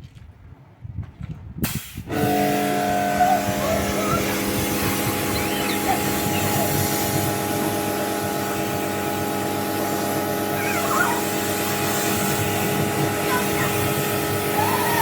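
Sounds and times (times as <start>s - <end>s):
pressure washer motor hum: 2.1s - 15.0s.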